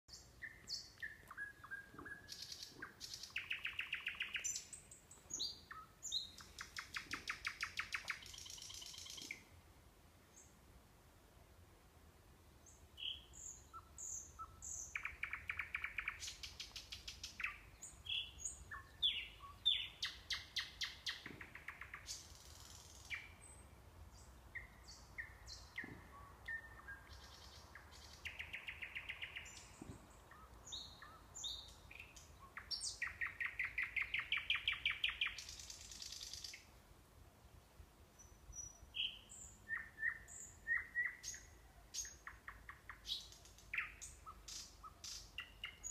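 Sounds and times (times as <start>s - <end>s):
nightingale singing: 0.1s - 9.6s, 12.6s - 36.8s, 38.1s - 45.9s.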